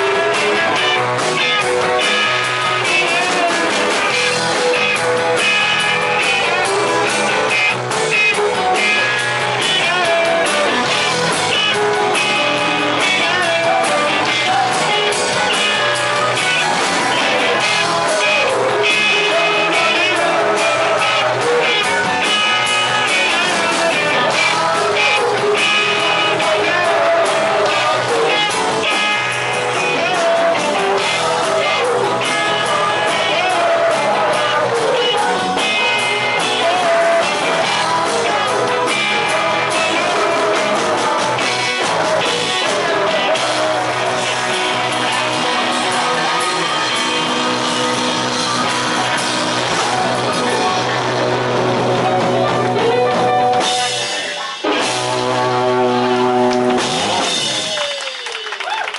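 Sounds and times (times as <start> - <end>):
person singing: 0.0 - 57.8
rock band playing: 0.0 - 58.9.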